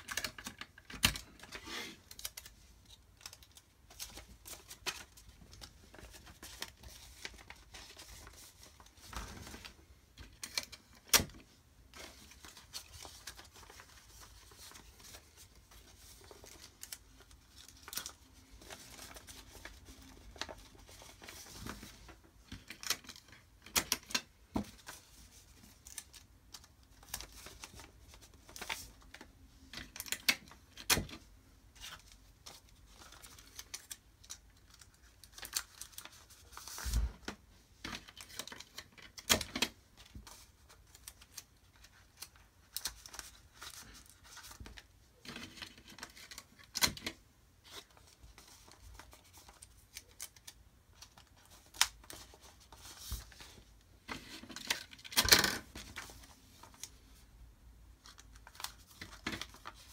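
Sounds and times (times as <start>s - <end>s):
paper rustling and crackling: 0.0s - 57.3s, 57.9s - 59.9s.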